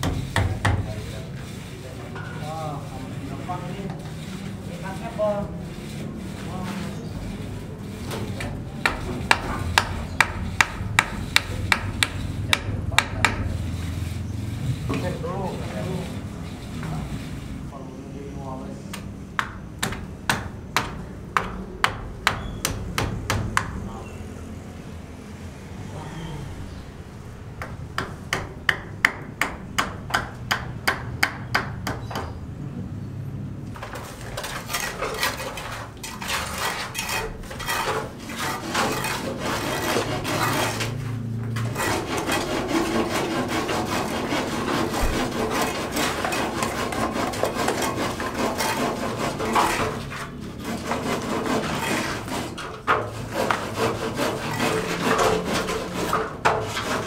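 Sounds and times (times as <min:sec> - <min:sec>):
tools scraping cement and buckets: 0:00.0 - 0:19.1, 0:19.8 - 0:24.3, 0:33.6 - 0:57.0.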